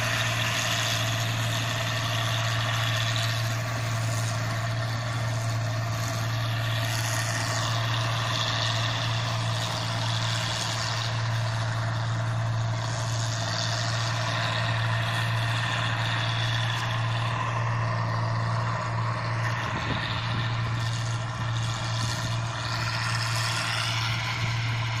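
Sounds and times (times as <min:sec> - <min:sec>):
combine harvester engine droning: 0:00.0 - 0:25.0.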